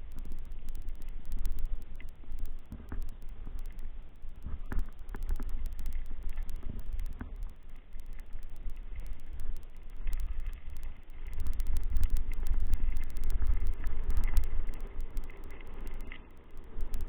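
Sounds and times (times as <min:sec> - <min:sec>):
faint clicks and rattles: 0:00.0 - 0:17.0.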